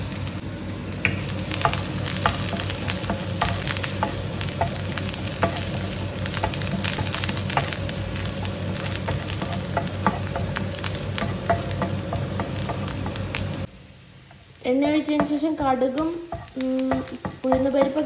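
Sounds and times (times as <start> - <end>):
shallots sizzling in frying pan: 0.0 - 18.0.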